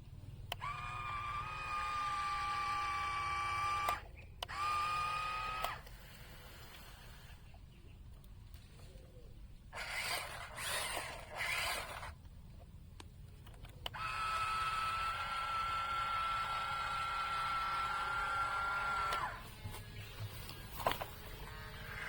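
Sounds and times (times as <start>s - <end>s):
toy gear motors whirring: 0.4s - 7.6s, 9.7s - 12.3s, 13.4s - 22.0s.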